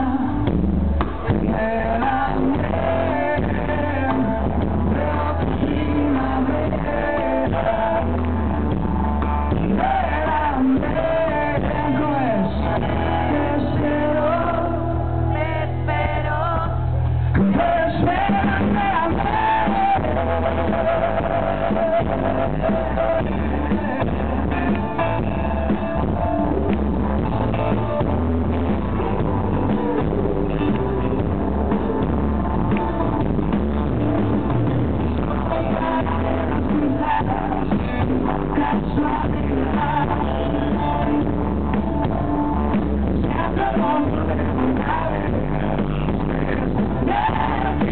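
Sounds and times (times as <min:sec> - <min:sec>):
man singing: 0:00.0 - 0:31.3, 0:33.8 - 0:41.8, 0:42.8 - 0:47.9
live rock band playing: 0:00.0 - 0:47.9.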